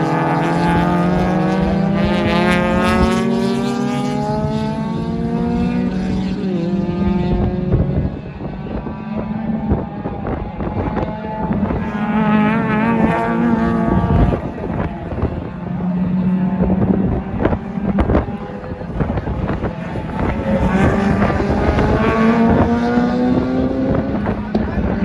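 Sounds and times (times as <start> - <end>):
car engine revving high: 0.0 - 25.0
wind buffeting microphone: 0.0 - 25.0.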